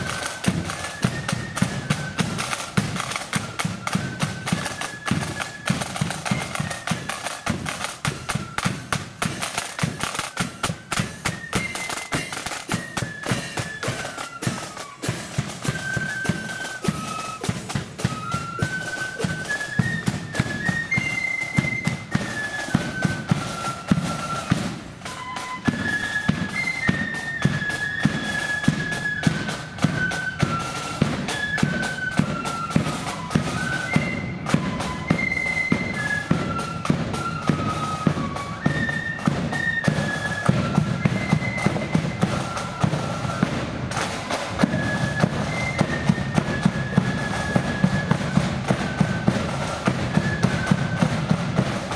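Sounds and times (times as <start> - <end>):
flute band playing: 0.0 - 51.9
rapid snare drumming: 0.0 - 51.9.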